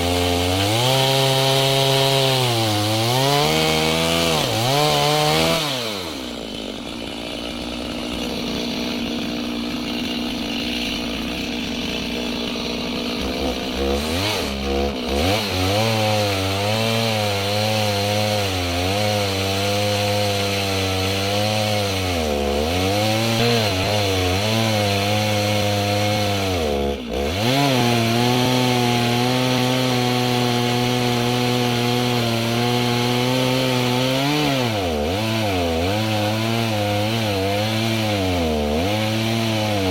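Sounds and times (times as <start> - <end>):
chainsaw cutting log under load: 0.0 - 39.9.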